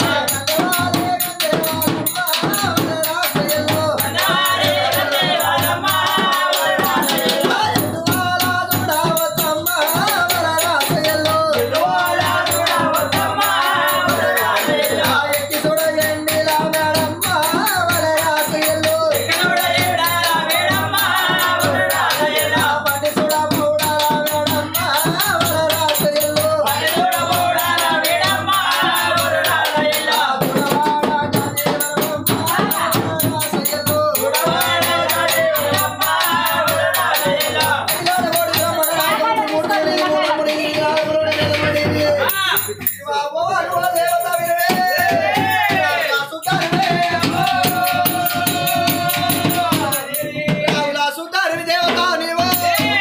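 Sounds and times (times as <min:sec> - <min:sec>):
hand drum beating: 0:00.0 - 0:43.0, 0:43.7 - 0:51.0
jingling percussion: 0:00.0 - 0:53.0
men singing folk song: 0:00.0 - 0:53.0.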